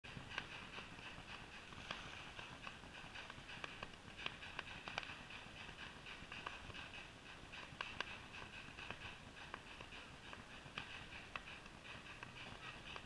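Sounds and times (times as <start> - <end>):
rapid pulsing: 0.1 - 13.0.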